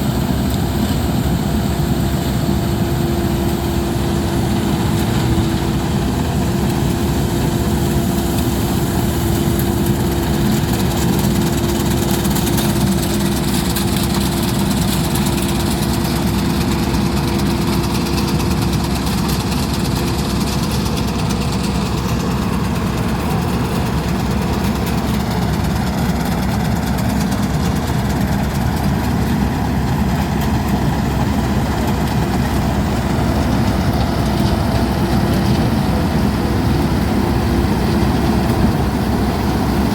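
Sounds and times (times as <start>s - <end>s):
combine harvester engine drone: 0.0s - 39.9s
constant whine: 0.0s - 39.9s.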